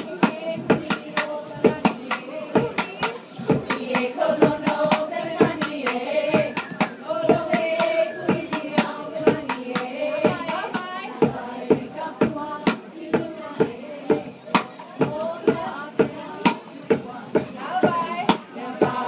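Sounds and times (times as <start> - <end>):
gourd drum strikes: 0.0 - 19.0.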